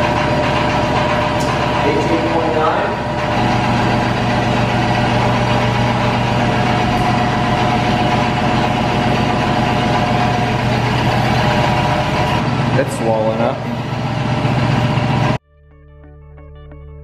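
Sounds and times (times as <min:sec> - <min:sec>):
vacuum pump humming: 0:00.0 - 0:15.4.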